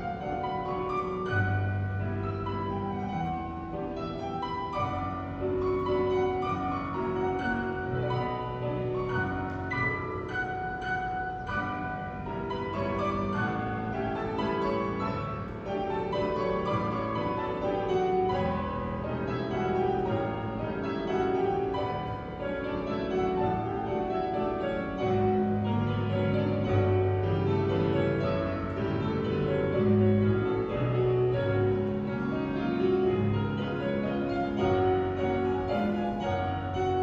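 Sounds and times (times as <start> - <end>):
piano music: 0.0 - 37.0.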